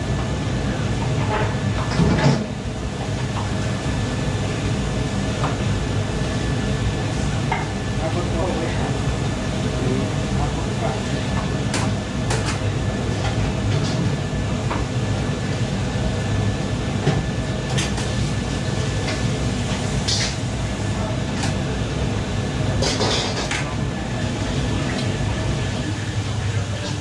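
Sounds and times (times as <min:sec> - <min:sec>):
gas burners roaring: 0:00.0 - 0:27.0
range hood extractor rumble: 0:00.0 - 0:27.0.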